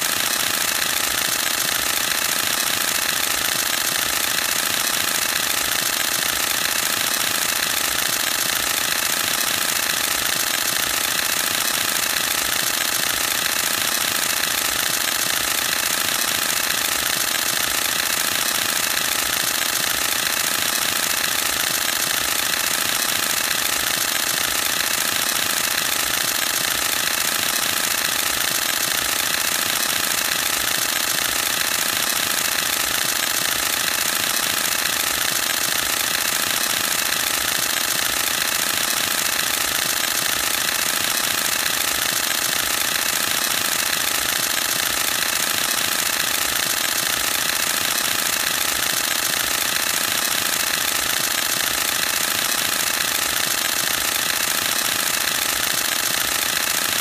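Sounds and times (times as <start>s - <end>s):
camera shutter burst rattling: 0.0s - 57.0s.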